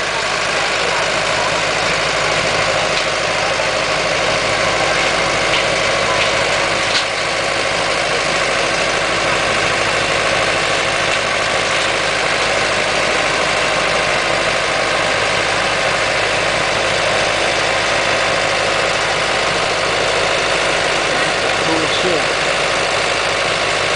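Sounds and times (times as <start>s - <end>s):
harvester engine droning: 0.0s - 23.9s.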